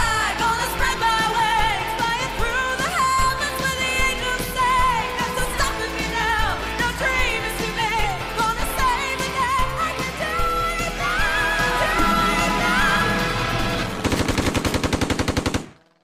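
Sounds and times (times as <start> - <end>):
pop song with singing: 0.0 - 13.9.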